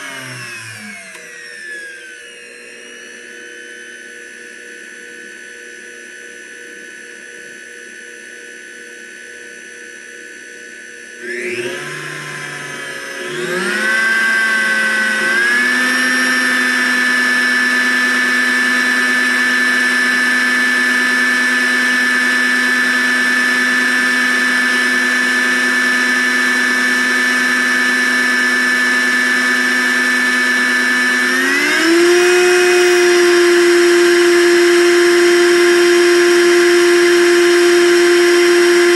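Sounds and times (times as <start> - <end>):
blender motor whining: 0.0 - 38.9.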